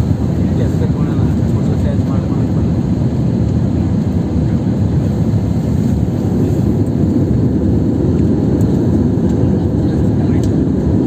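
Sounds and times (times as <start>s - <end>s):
jet airliner cabin roar: 0.0s - 11.0s.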